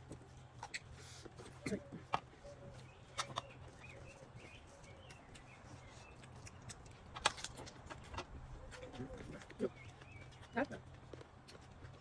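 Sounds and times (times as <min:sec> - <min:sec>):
small birds chirping: 0:00.1 - 0:07.1, 0:08.6 - 0:12.0.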